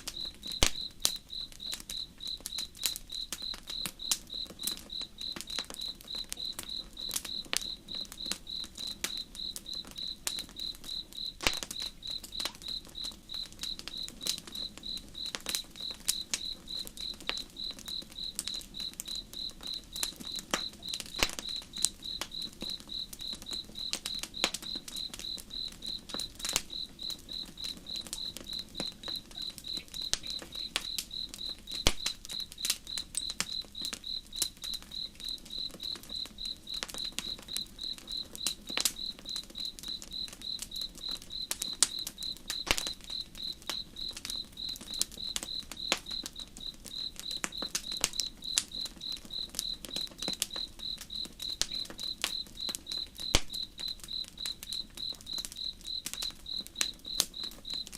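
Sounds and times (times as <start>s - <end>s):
campfire crackling: 0.0s - 57.9s
cricket chirping: 0.0s - 57.9s.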